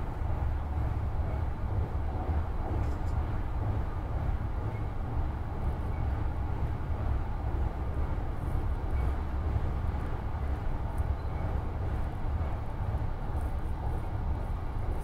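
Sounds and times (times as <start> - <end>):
train rumbling across bridge: 0.0 - 15.0.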